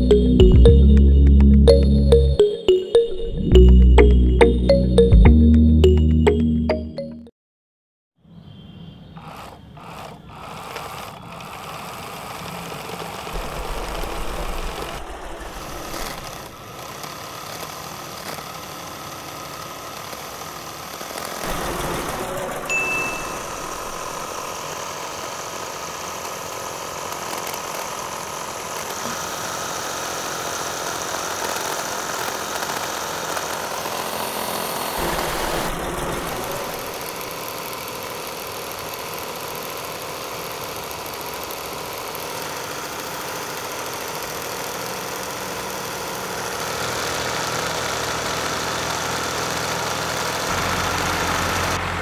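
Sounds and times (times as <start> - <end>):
small electric motor running: 9.2 - 51.8.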